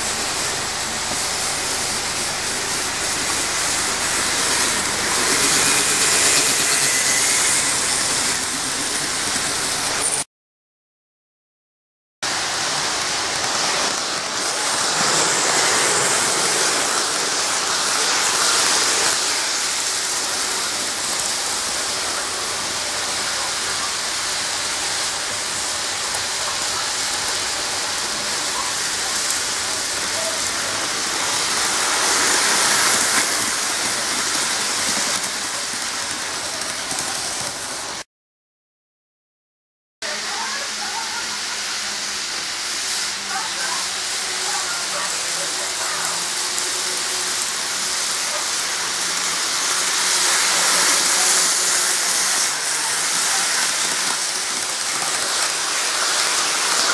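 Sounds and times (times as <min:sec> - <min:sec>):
model train rattling on track: 0:00.0 - 0:10.2, 0:12.3 - 0:38.0, 0:40.1 - 0:56.9.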